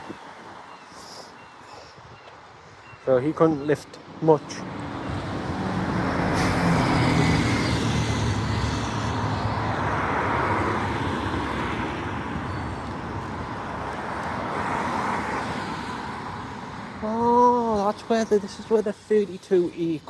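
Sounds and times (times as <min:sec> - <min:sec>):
vehicles passing on road: 0:00.0 - 0:20.0.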